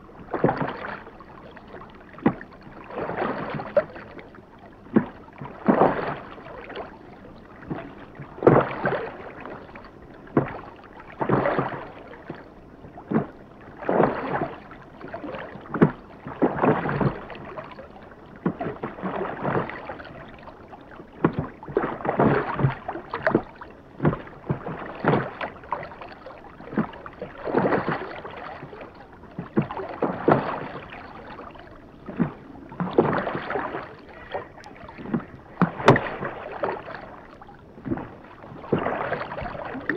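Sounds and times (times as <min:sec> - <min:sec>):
oars stroking through water: 0:00.0 - 0:39.9.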